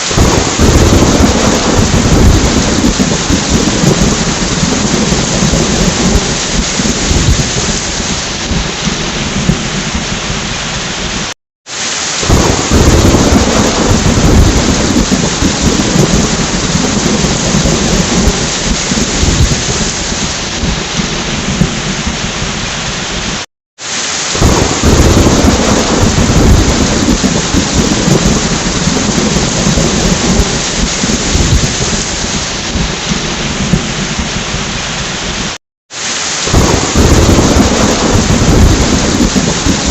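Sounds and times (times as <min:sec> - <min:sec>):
rolling thunder: 0:00.0 - 0:11.2, 0:12.2 - 0:23.4, 0:24.3 - 0:35.6, 0:36.5 - 0:39.9
heavy rain: 0:00.0 - 0:39.9.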